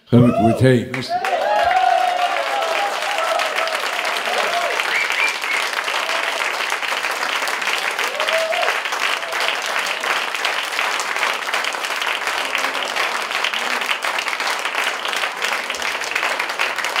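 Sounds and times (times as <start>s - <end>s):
audience applauding: 0.9s - 17.0s.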